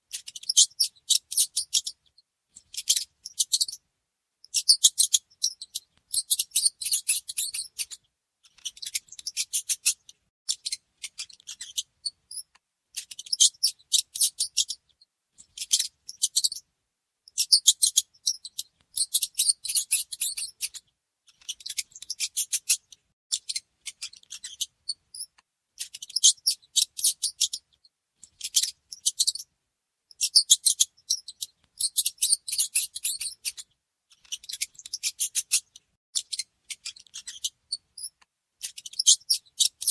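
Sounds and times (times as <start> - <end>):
mice squeaking: 0.1 - 3.8, 4.4 - 16.6, 17.3 - 20.8, 21.4 - 29.5, 30.1 - 33.6, 34.2 - 39.9.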